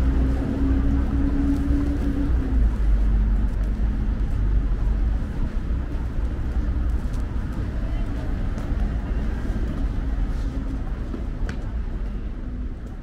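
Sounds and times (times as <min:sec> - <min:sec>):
low rumble of road noise: 0:00.0 - 0:13.0
vehicle engine hum: 0:00.0 - 0:13.0.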